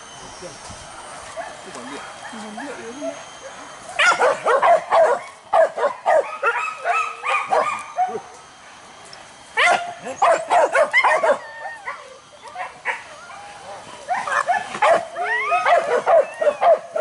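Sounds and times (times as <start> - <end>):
dogs barking and yelping: 1.2 - 8.4, 9.6 - 17.0.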